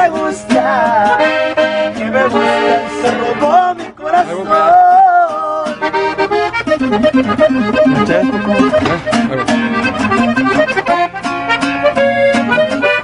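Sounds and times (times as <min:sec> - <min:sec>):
accordion melody: 0:00.0 - 0:13.0
strummed acoustic guitar: 0:00.0 - 0:13.0.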